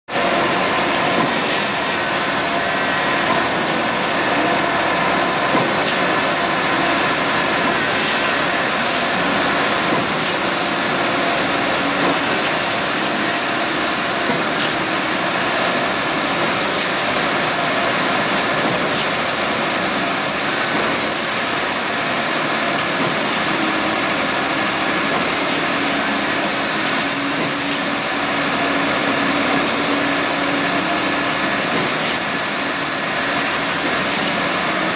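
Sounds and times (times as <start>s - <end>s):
construction machinery engines running: 0.1s - 34.9s.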